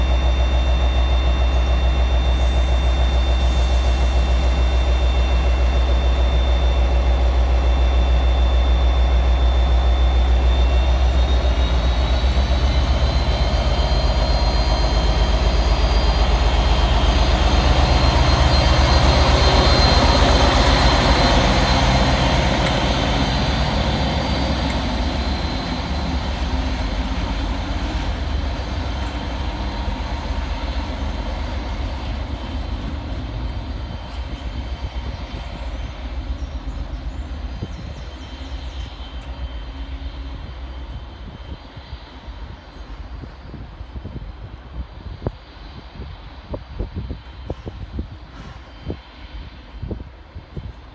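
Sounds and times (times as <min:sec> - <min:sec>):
diesel locomotive engine: 0:00.0 - 0:50.9.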